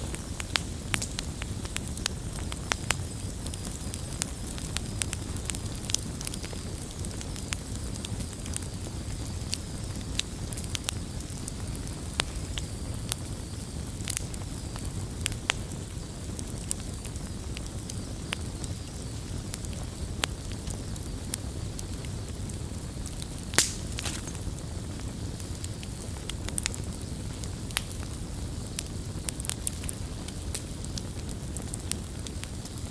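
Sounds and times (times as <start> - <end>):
fire crackling and popping: 0.0 - 32.9
low fire rumble: 0.0 - 32.9.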